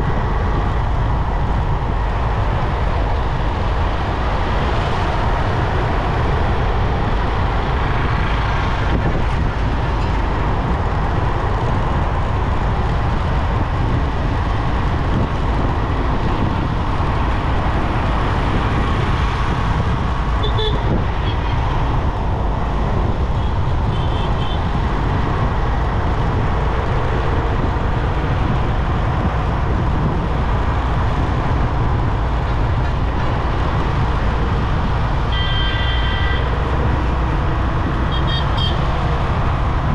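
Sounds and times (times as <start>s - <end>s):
passing traffic: 0.0s - 39.9s
wind and road rumble: 0.0s - 39.9s.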